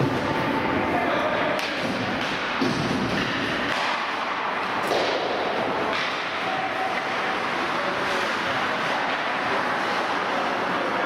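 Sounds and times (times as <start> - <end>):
skates scraping on ice: 2.1 - 11.0.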